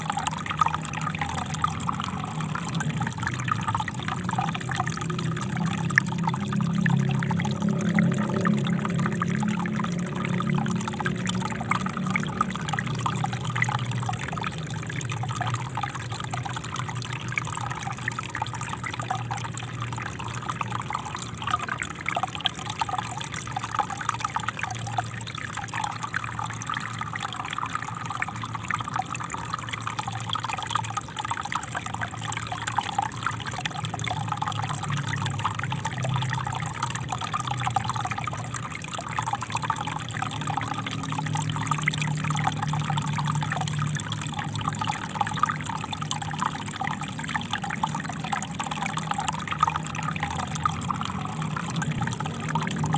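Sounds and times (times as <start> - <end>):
water trickling over rocks: 0.0 - 52.9.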